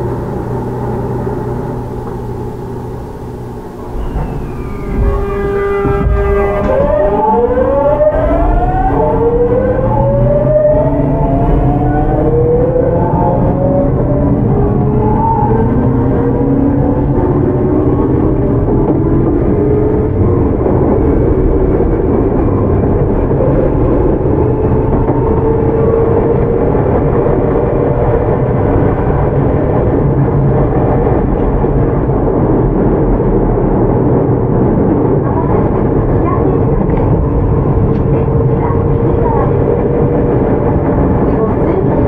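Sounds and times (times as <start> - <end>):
train motor whine: 0.0 - 42.0
train wheels rumbling on rails: 0.0 - 42.0.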